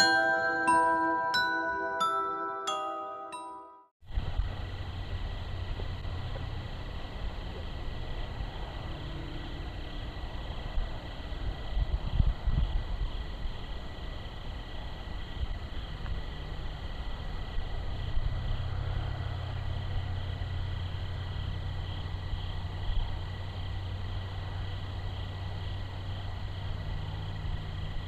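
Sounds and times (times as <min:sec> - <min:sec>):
low drone: 0:04.1 - 0:28.0
night insects chirring: 0:04.4 - 0:28.0.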